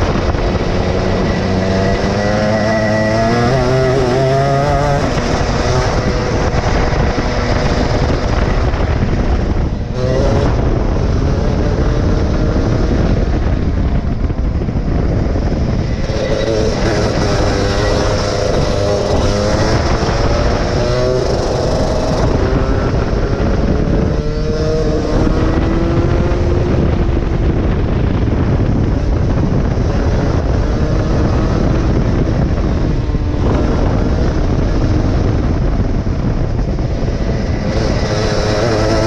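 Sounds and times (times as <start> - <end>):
go-kart engine revving: 0.0 - 13.8, 14.4 - 39.0.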